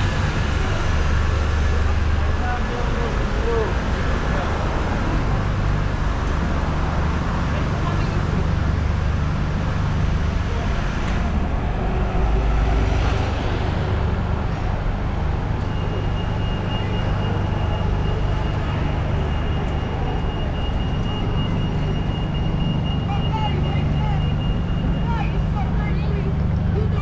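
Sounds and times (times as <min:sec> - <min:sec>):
passing vehicle engine rumble: 0:00.0 - 0:27.0.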